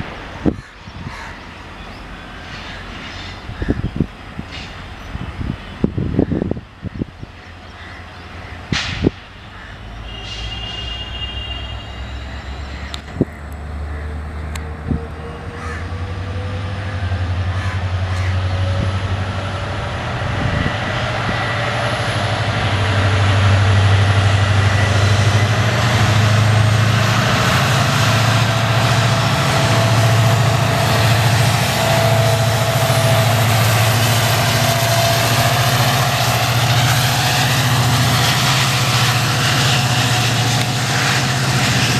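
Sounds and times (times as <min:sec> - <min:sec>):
diesel locomotive engine hum: 0:00.0 - 0:41.9
train wheel and rail noise: 0:00.0 - 0:41.9.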